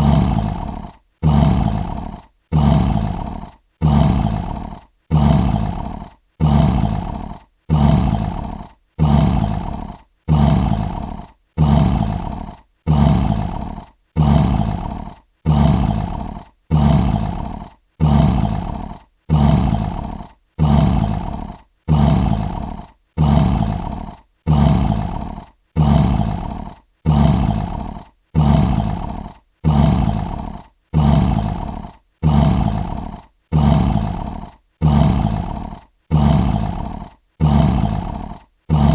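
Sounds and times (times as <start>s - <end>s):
lion roaring: 0.0s - 38.9s.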